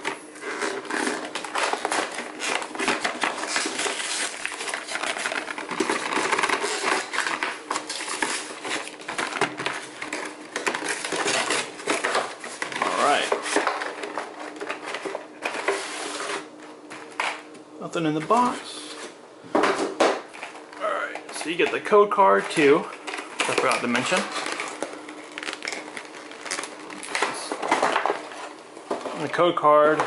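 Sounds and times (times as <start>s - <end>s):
cardboard and plastic crinkling: 0.0s - 17.4s, 20.2s - 30.0s.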